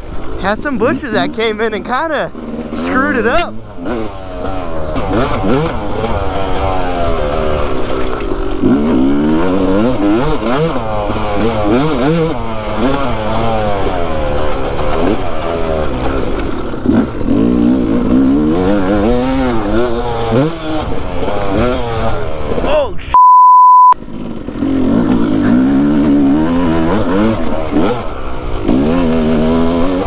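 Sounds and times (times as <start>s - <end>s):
dirt bike engine revving: 0.1s - 22.9s, 24.0s - 30.0s.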